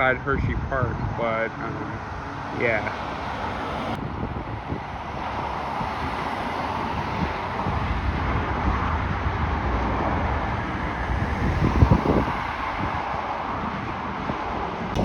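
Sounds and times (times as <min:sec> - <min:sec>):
road and vehicle rumble: 0:00.0 - 0:15.0
wind buffeting microphone: 0:00.0 - 0:15.0.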